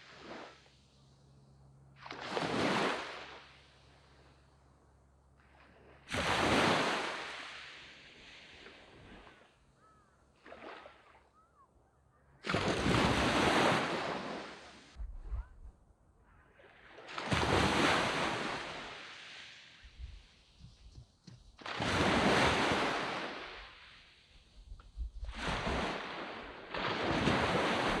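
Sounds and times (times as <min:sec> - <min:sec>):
waves breaking on a beach: 0:00.0 - 0:11.8, 0:12.4 - 0:15.0, 0:16.5 - 0:28.0.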